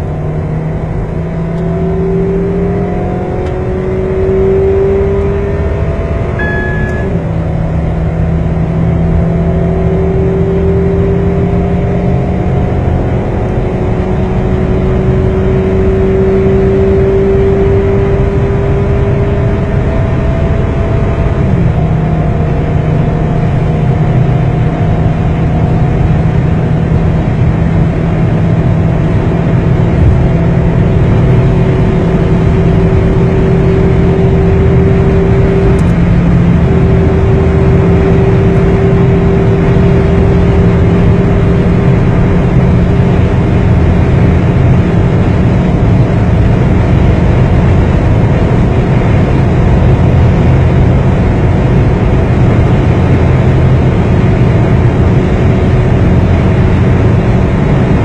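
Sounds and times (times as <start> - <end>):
car engine running hard: 0.0 - 58.0
wind and road noise: 0.0 - 58.0.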